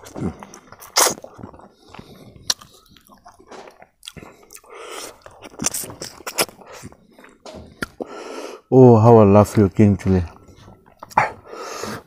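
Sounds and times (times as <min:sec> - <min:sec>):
wet chewing mouth sounds: 0:00.0 - 0:08.3, 0:10.3 - 0:12.0.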